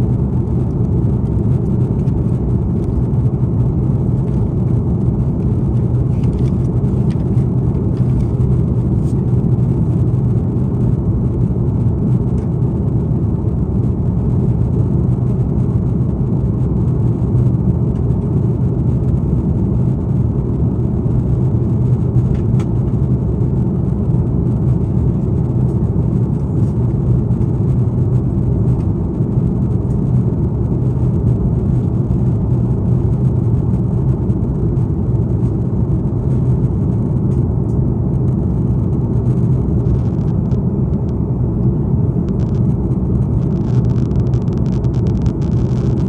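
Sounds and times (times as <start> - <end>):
jet engine drone in cabin: 0.0 - 46.0.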